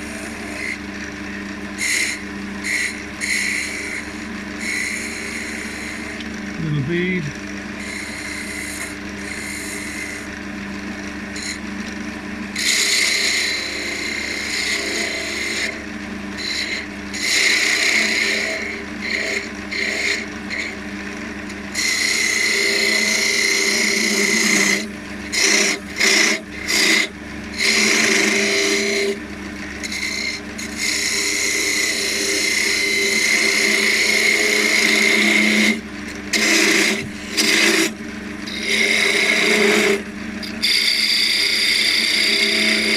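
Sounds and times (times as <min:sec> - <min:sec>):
gouge cutting wood on a lathe: 0:00.0 - 0:06.3, 0:07.6 - 0:10.4, 0:11.3 - 0:42.9
lathe motor humming: 0:00.0 - 0:42.9.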